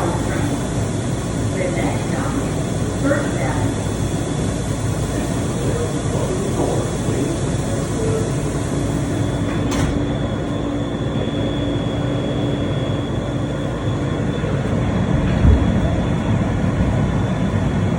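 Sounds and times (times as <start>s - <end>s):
subway train rumble: 0.0s - 17.9s.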